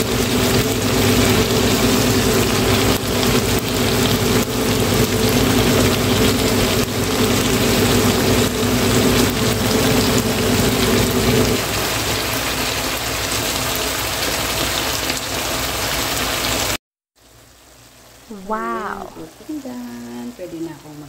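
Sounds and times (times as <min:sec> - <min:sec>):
food sizzling in frying pan: 0:00.0 - 0:21.0.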